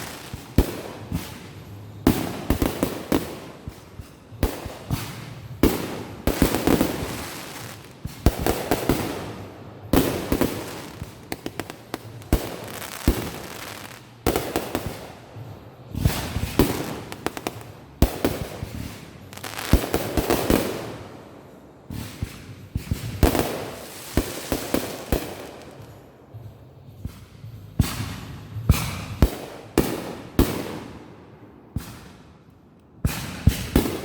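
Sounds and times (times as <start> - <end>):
fireworks bangs with crackle: 0.0 - 21.2, 21.8 - 31.1, 31.7 - 32.4, 33.0 - 34.0.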